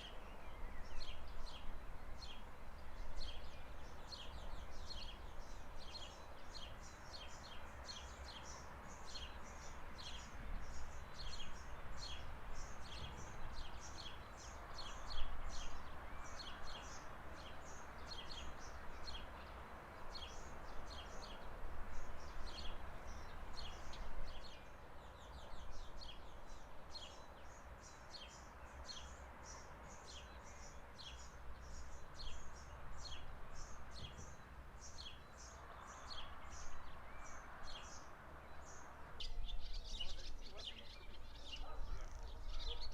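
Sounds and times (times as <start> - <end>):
birds chirping rapidly: 0.0 - 42.9
low background noise: 0.0 - 42.9.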